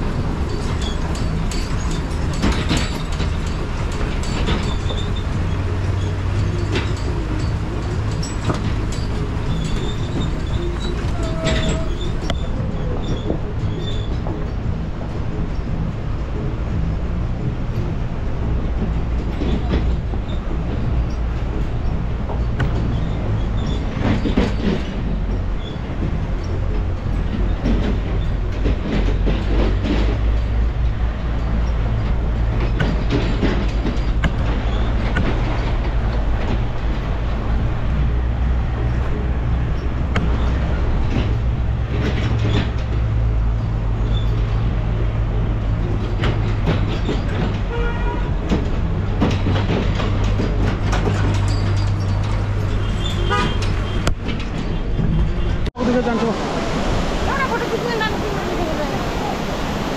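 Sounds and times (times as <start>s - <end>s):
vehicle rattling and knocking: 0.0s - 55.9s
low engine rumble: 0.0s - 59.9s.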